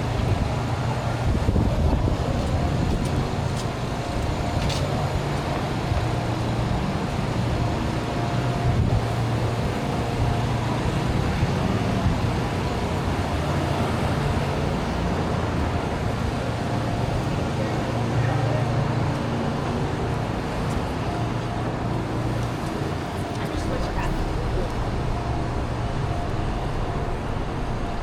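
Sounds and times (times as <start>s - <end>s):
street traffic engines rumbling: 0.0s - 28.0s.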